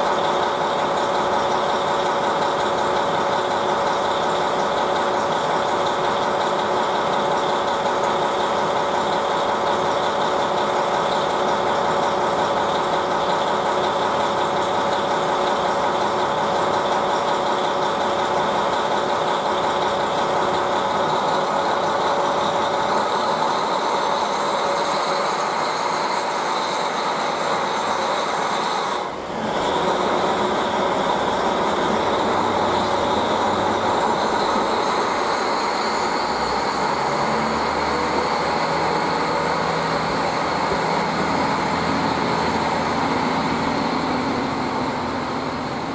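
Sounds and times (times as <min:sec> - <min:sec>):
diesel railcar engine idling: 0:00.0 - 0:45.9.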